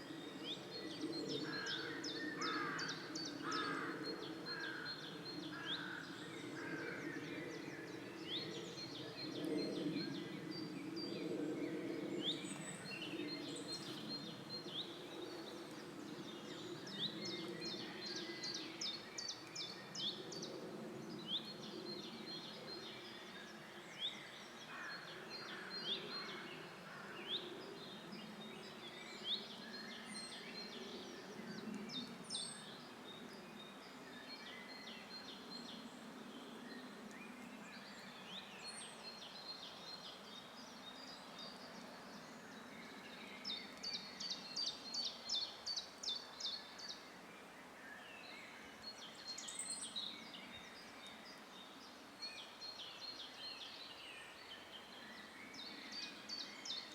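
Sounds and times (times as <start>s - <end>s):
songbirds singing and calling: 0.0s - 56.9s.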